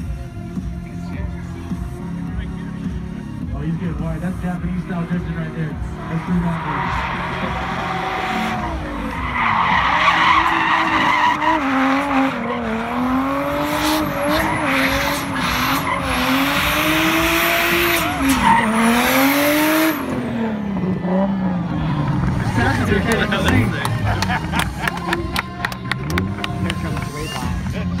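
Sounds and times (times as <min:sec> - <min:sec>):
car engine at high revs: 0:00.0 - 0:28.0.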